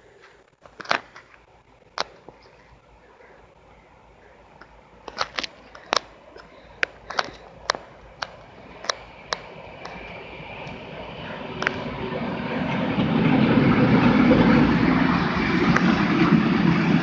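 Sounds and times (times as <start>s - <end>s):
approaching train rumble: 0.0s - 17.0s
faint steady whine: 0.0s - 17.0s.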